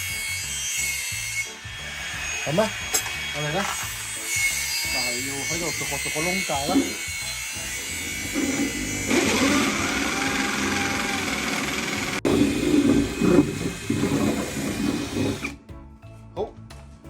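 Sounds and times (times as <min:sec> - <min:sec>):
electric drill boring wood: 0:00.0 - 0:15.6.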